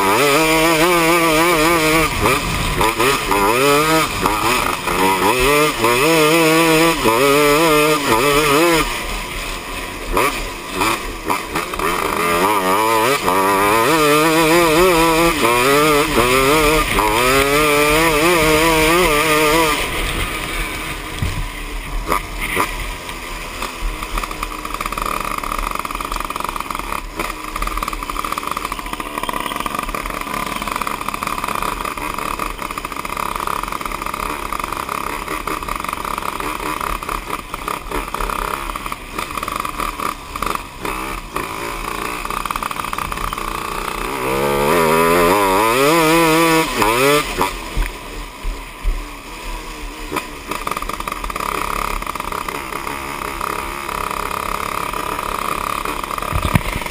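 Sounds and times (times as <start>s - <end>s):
constant rushing noise: 0.0s - 56.9s
two-stroke kart engine revving: 0.0s - 56.9s.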